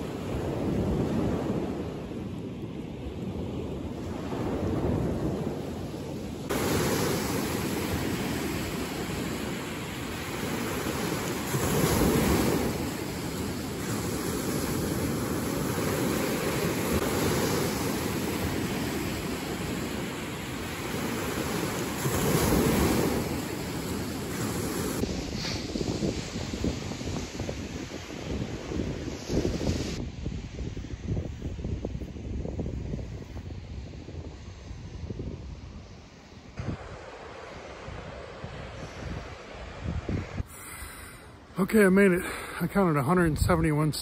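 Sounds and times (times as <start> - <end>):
waves washing on shore: 0.0 - 31.1, 35.7 - 44.0
wind buffeting microphone: 0.0 - 40.5.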